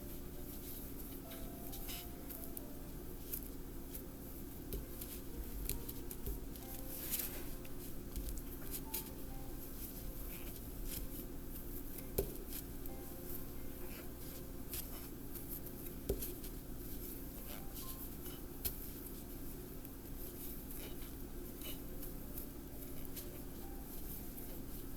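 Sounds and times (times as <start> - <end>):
steady low hum: 0.0 - 24.9
yarn rustling: 0.0 - 24.9.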